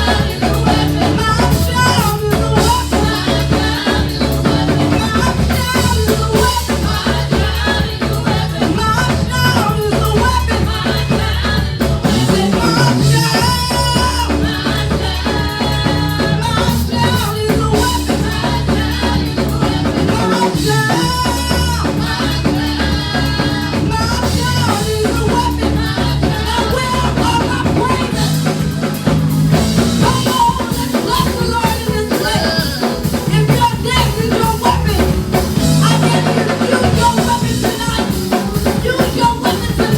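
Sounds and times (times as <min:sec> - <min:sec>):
drum kit beat: 0:00.0 - 0:39.9
worship band music: 0:00.0 - 0:39.9.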